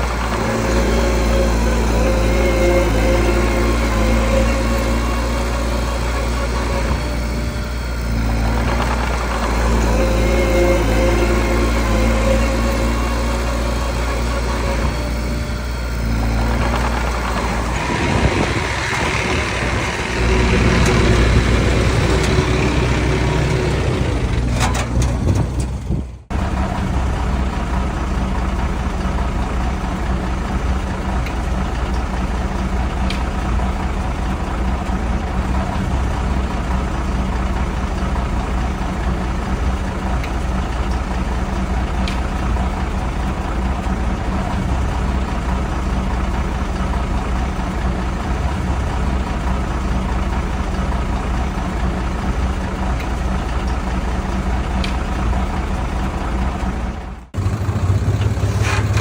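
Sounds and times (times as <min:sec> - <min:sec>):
bulldozer diesel engine working: 0:00.0 - 0:59.0
steady engine sound: 0:00.0 - 0:59.0.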